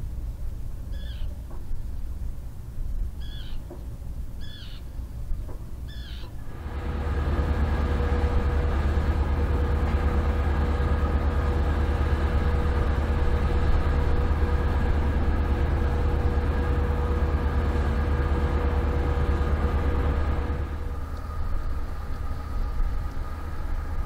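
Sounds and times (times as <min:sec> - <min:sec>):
ship engine drone: 0:00.0 - 0:24.0.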